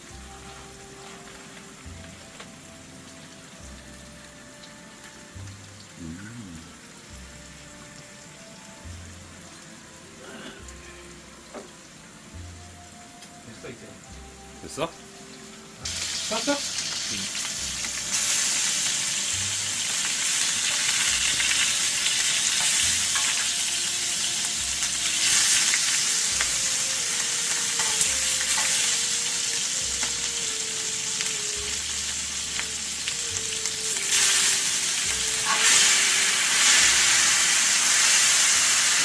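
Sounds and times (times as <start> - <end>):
food sizzling in a pot: 0.0 - 39.0.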